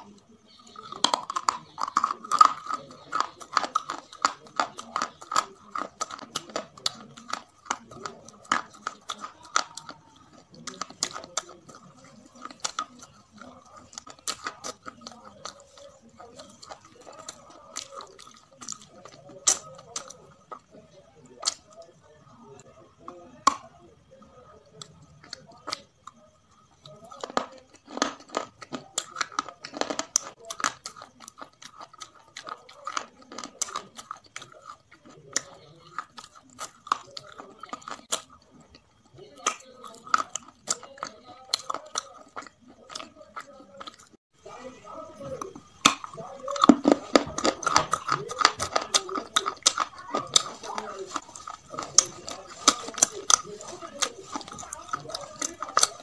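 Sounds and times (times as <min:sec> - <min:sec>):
crunching fried chicken: 0:00.0 - 0:56.0
soft chewing: 0:00.0 - 0:56.0.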